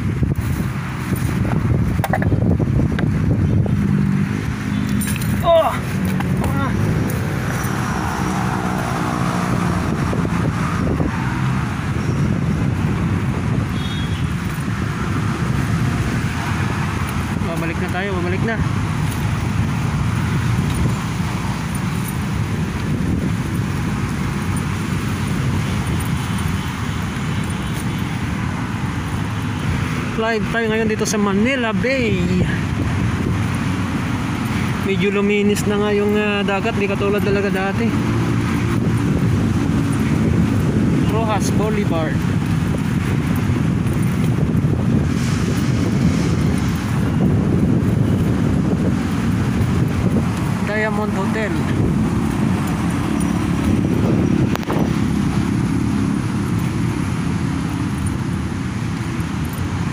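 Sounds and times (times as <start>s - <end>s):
road traffic rumble: 0.0s - 59.9s
wind buffeting microphone: 0.0s - 59.9s.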